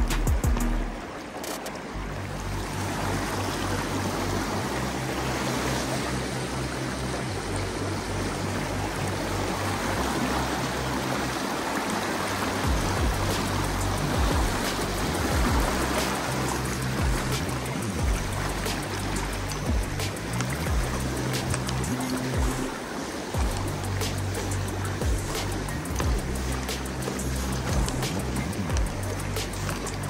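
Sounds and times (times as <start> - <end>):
background music with bass: 0.0 - 1.1, 2.0 - 11.4, 12.3 - 22.8, 23.4 - 30.0
river water rushing: 0.0 - 30.0.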